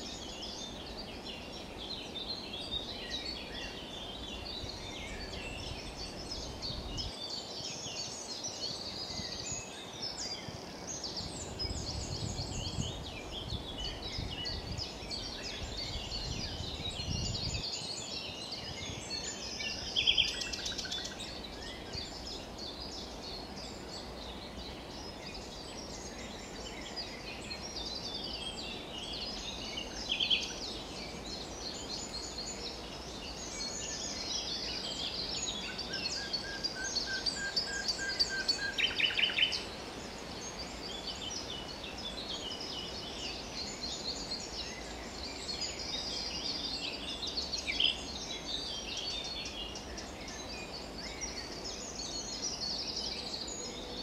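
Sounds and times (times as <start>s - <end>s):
nightingale singing: 0.0s - 54.0s
songbirds singing softly: 0.0s - 54.0s.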